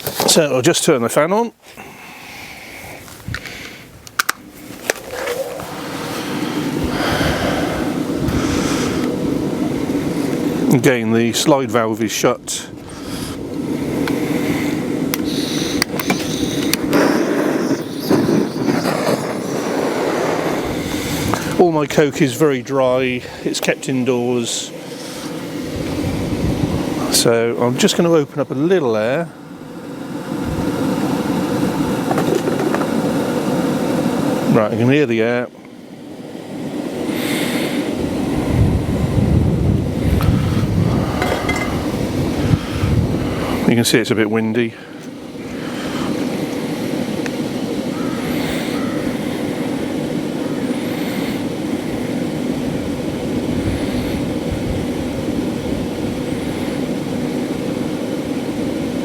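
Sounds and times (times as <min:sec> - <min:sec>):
blower fan running: 0:00.0 - 0:59.0
burning kindling crackling: 0:00.0 - 0:59.0
wind buffeting microphone: 0:02.8 - 0:29.2, 0:29.8 - 0:34.5, 0:37.8 - 0:44.2, 0:45.3 - 0:59.0.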